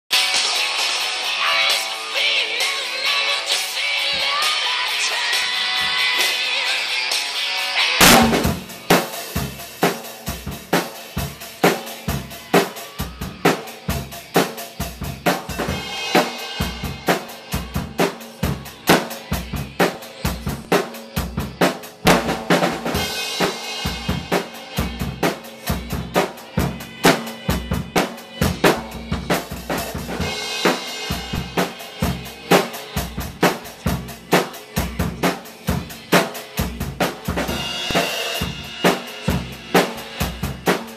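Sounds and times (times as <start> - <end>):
drum kit groove: 0.1 - 40.9.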